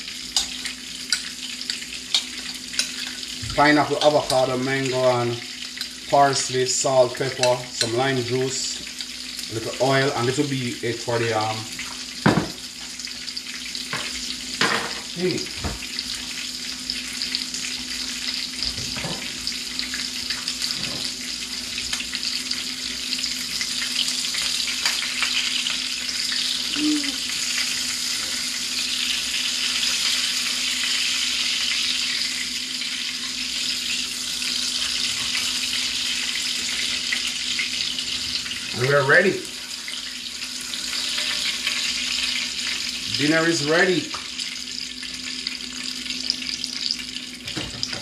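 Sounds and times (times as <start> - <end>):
fish sizzling in oil: 0.0 - 48.0.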